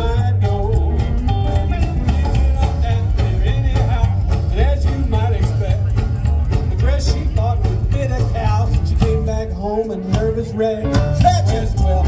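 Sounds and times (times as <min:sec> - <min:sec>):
live rockabilly band playing: 0:00.0 - 0:12.0.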